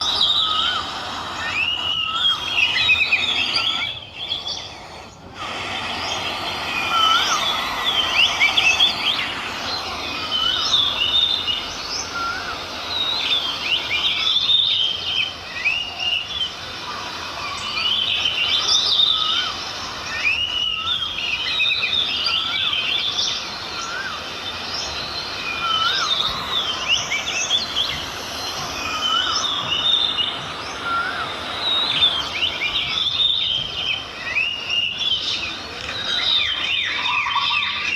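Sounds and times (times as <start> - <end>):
birds chirping: 0.0 - 37.9
rising and falling bird call: 0.0 - 37.9
steady outdoor hiss: 0.0 - 37.9.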